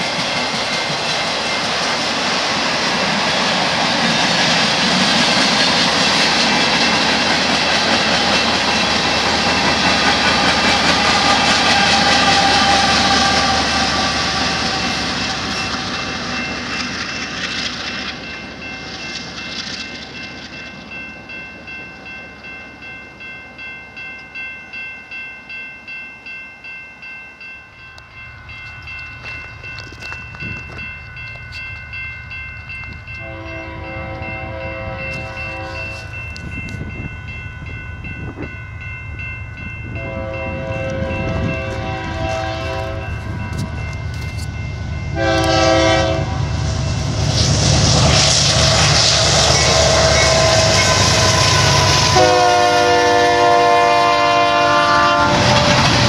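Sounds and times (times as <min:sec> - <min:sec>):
train wheels rumbling on rail: 0:00.0 - 0:24.8, 0:27.8 - 0:56.0
railroad crossing bell ringing: 0:00.0 - 0:56.0.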